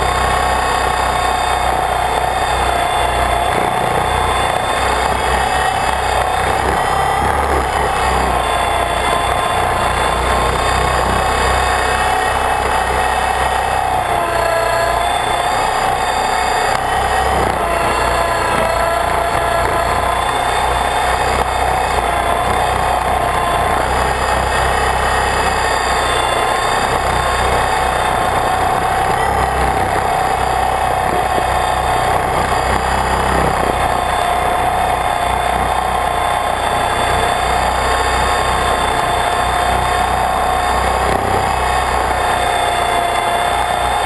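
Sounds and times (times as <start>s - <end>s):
model helicopter motor whine: 0.0s - 44.0s.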